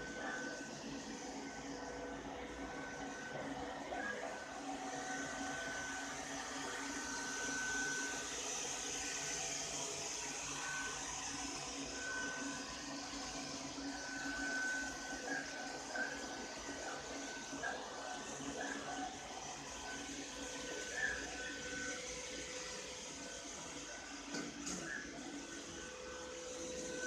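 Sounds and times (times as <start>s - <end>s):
robot vacuum cleaner whirring: 0.0s - 27.0s.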